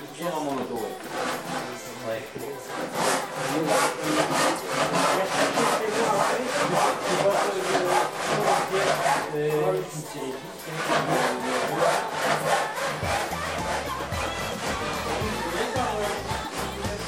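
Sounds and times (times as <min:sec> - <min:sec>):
hand tool rasping wood: 0:00.4 - 0:17.0.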